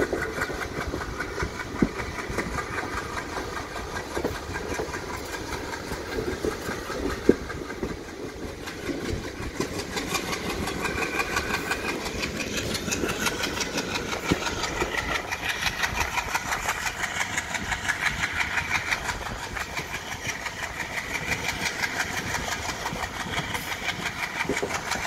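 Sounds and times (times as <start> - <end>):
steady train running hum: 0.0 - 25.0
train wheels clattering over rail joints: 0.0 - 25.0.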